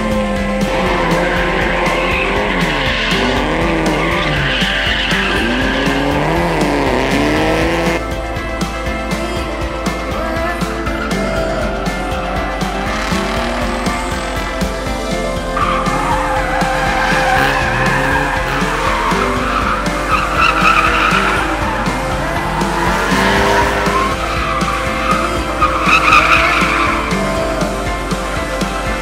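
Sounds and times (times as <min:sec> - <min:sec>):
car engine revving: 0:00.0 - 0:29.0
tyres squealing: 0:00.0 - 0:29.0.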